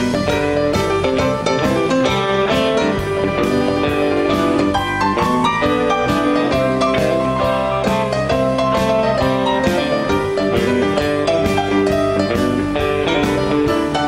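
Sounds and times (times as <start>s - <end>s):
drums keeping steady beat: 0.0s - 14.0s
live blues-rock band: 0.0s - 14.0s.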